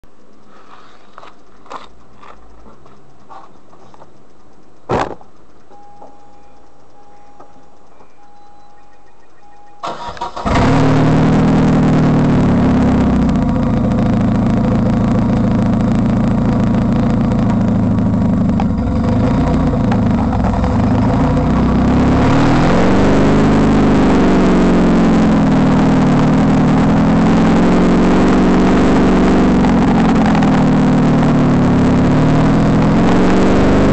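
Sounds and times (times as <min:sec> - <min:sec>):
car engine starting and idling: 0:00.2 - 0:33.9
repeating beep: 0:05.7 - 0:33.9.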